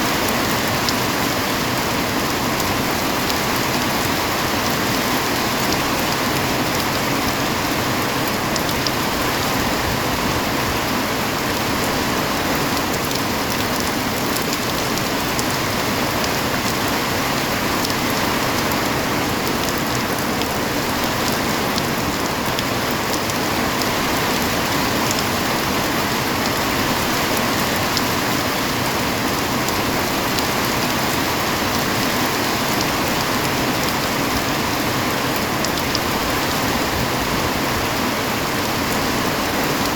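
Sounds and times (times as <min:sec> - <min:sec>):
raindrops ticking on surfaces: 0:00.0 - 0:39.9.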